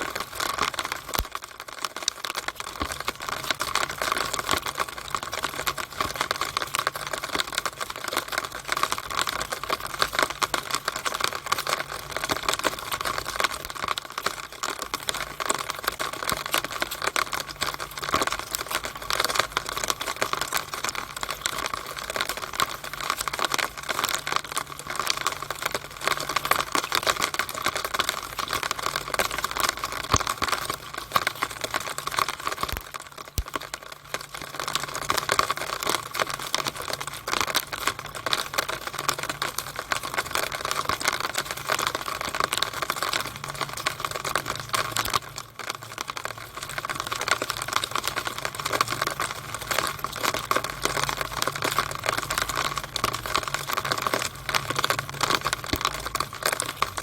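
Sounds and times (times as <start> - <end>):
rainwater dripping inside a drainpipe: 0.0 - 57.0.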